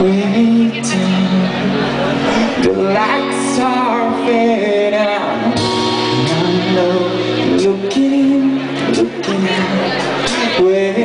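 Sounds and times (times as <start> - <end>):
live band music: 0.0 - 11.0
man singing: 0.0 - 11.0.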